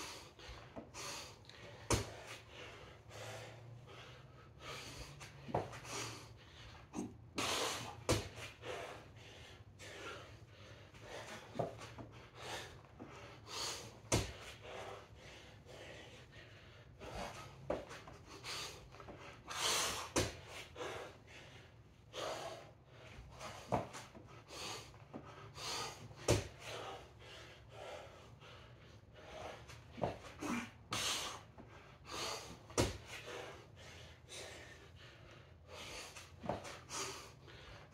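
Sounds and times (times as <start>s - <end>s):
man breathing heavily: 0.0s - 37.9s.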